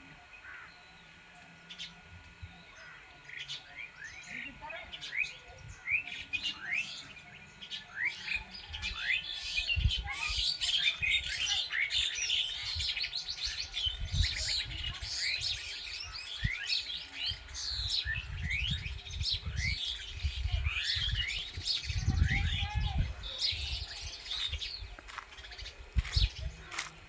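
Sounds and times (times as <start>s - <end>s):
birds chirping and twittering: 0.0s - 27.0s.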